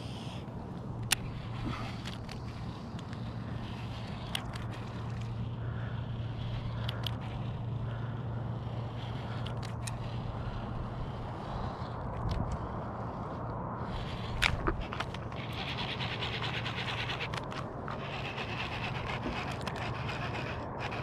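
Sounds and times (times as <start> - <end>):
steady low hum: 0.0 - 21.0
wind and water hiss: 0.0 - 21.0.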